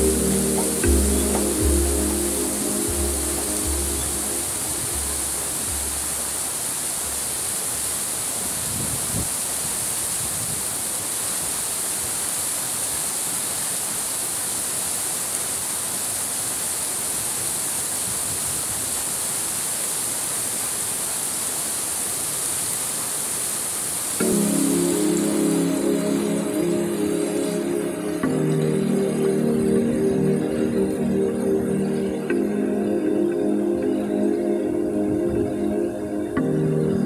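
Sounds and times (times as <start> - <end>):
waterfall and stream rushing: 0.0 - 36.9.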